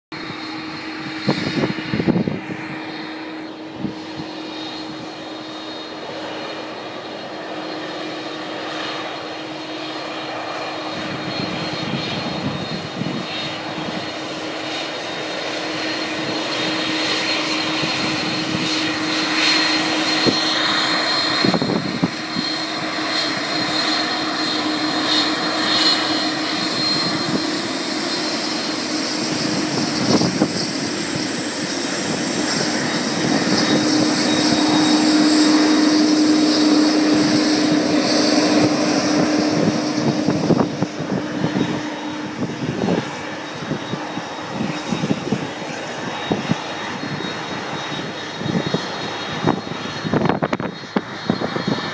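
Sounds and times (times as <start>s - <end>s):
jet aircraft taxiing: 0.1s - 51.9s.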